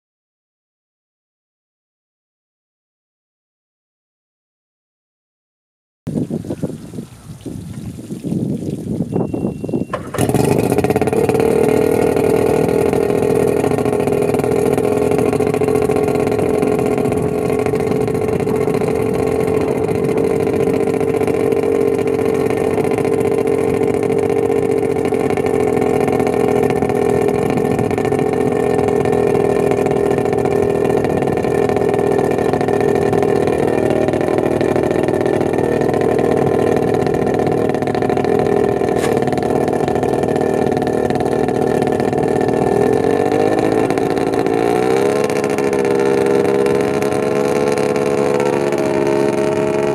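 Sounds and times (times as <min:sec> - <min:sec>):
outboard motor idling: 0:09.0 - 0:49.9.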